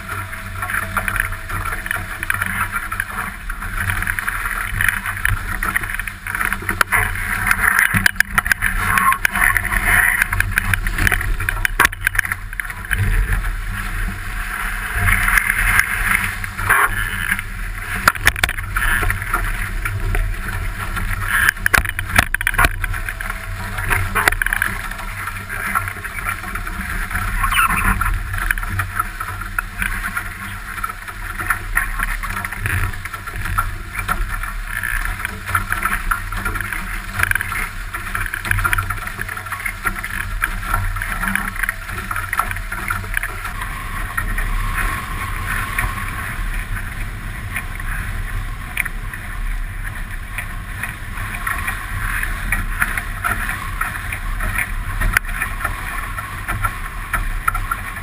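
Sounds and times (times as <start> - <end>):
water rushing along hulls: 0.0 - 58.0
wind rumble on microphone: 0.0 - 58.0.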